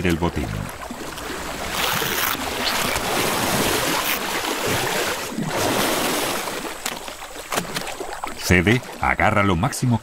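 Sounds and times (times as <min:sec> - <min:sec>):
heavy water splashing: 0:00.0 - 0:10.0
sharp water slaps: 0:00.8 - 0:09.0.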